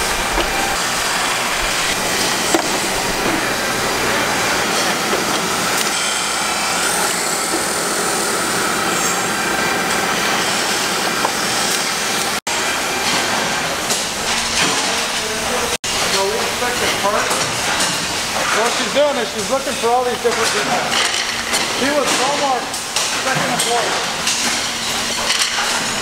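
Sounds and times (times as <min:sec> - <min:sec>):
woodworking machinery din: 0:00.0 - 0:26.0.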